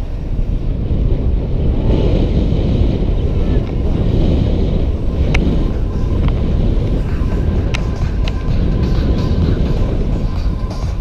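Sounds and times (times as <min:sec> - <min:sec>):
bike tyres rumbling on track: 0:00.0 - 0:11.0
wind buffeting microphone: 0:00.0 - 0:11.0.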